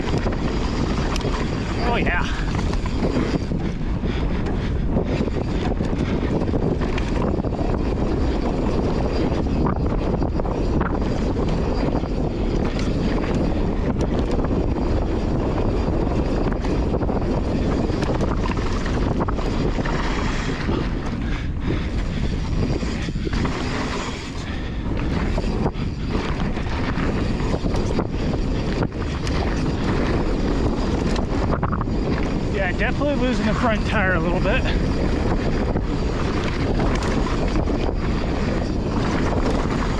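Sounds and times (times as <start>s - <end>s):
bike tyre noise: 0.0s - 39.9s
wind rush on microphone: 0.0s - 39.9s.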